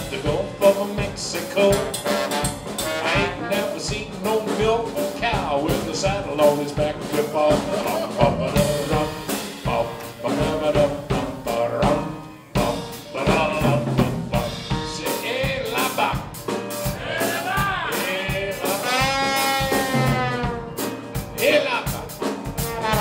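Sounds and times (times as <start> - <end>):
drum kit beat: 0.0 - 23.0
piano: 0.0 - 23.0.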